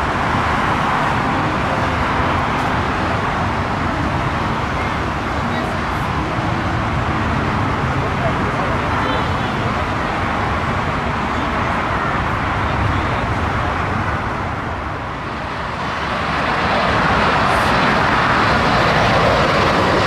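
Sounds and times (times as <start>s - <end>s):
airliner engine rumble: 0.0s - 20.0s
jet engine rushing: 0.0s - 20.0s.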